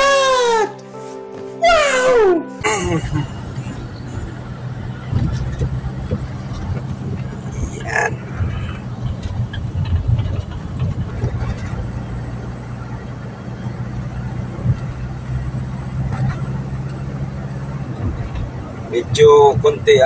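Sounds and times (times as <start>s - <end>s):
vehicle cabin engine hum: 1.7s - 20.0s.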